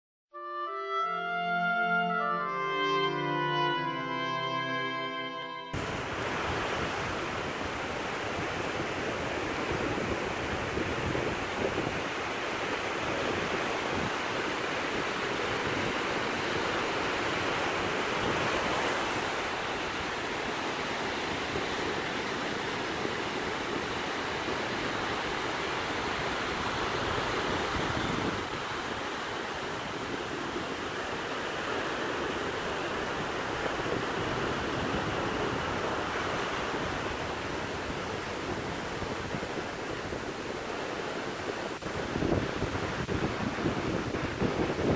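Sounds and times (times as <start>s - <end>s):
sea surf on sandy beach: 5.7s - 44.9s
wind buffeting microphone: 5.8s - 44.9s.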